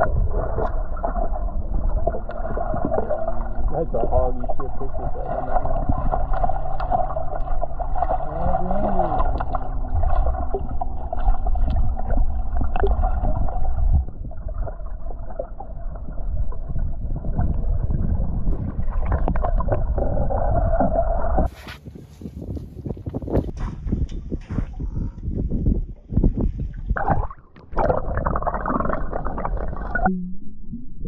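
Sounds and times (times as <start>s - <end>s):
muffled underwater water noise: 0.0s - 21.8s, 23.0s - 31.0s.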